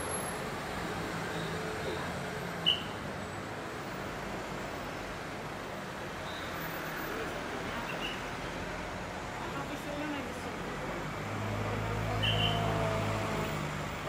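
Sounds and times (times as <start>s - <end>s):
traffic noise with engine hum: 0.0s - 14.0s.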